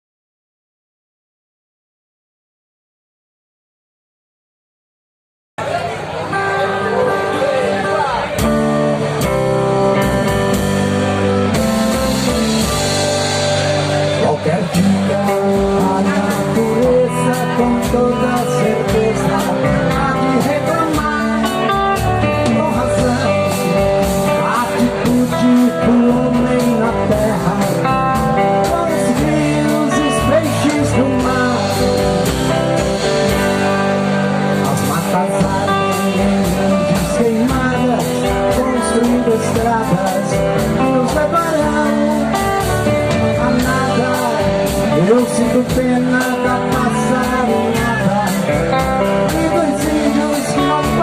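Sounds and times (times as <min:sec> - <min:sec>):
acoustic guitar: 0:05.6 - 0:51.0
bass guitar: 0:05.6 - 0:51.0
electric guitar lead: 0:05.6 - 0:51.0
drum kit: 0:08.0 - 0:51.0.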